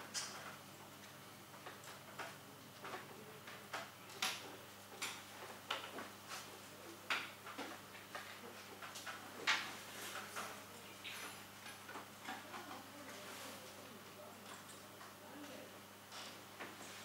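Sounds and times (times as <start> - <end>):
faint irregular clicks and taps: 0.0 - 17.0.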